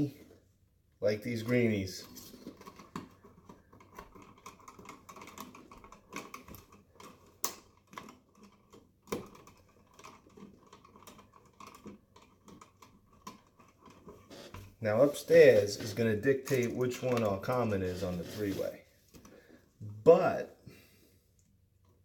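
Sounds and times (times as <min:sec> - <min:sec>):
rustling of hands handling wires: 0:00.0 - 0:22.0.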